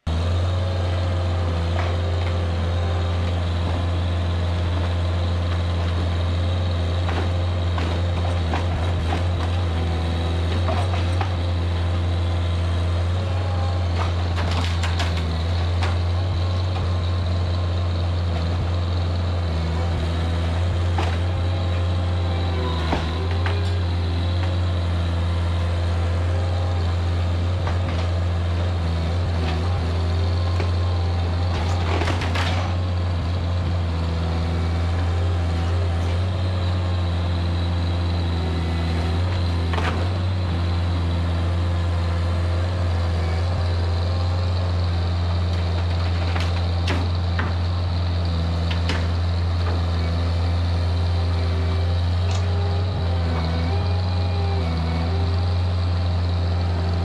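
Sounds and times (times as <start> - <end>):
small engine idling: 0.0 - 57.0.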